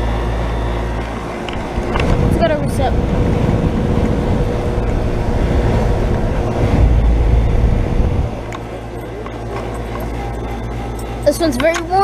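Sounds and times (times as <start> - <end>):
heat pump humming: 0.0 - 12.0
low rumble: 1.5 - 11.3.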